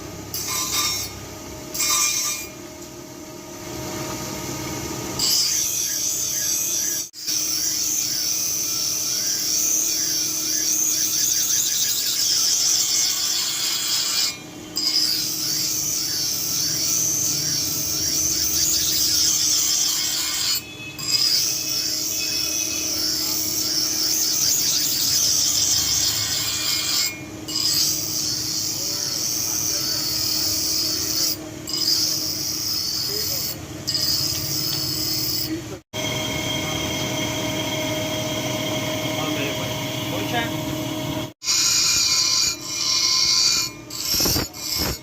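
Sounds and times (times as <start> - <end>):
metal being ground rasping: 0.3 - 2.7, 4.9 - 45.0.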